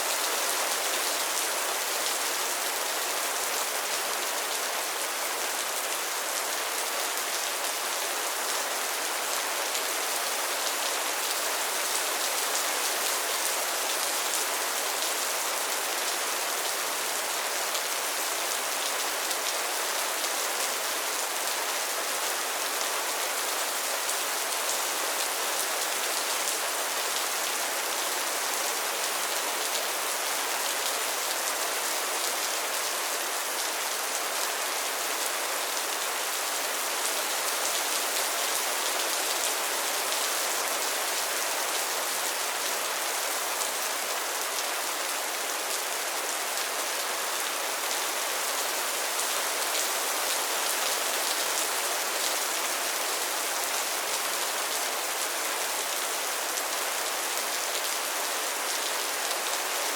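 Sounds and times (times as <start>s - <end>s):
rain falling on a pond: 0.0s - 59.9s.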